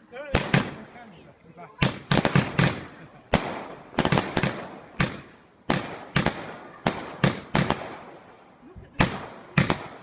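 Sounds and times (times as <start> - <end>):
firework bangs: 0.2 - 1.1, 1.8 - 10.0.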